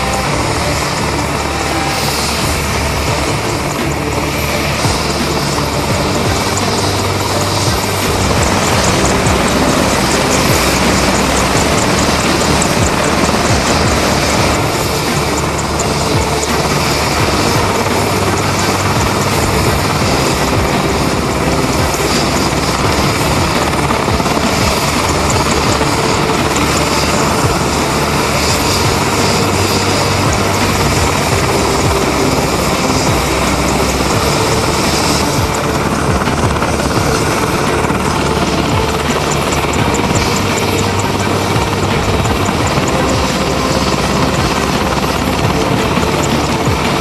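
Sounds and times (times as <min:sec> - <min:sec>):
helicopter turbine whine: 0:00.0 - 0:47.0
rotor blade chop: 0:00.0 - 0:47.0.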